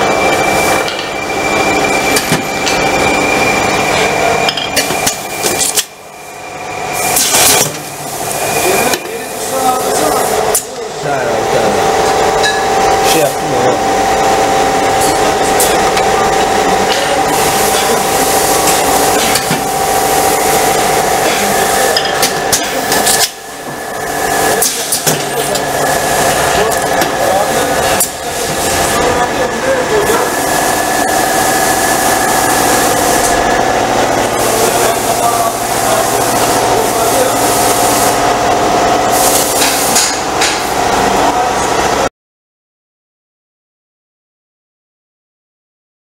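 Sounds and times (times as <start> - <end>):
mechanical hum with high whine: 0.0 - 42.1.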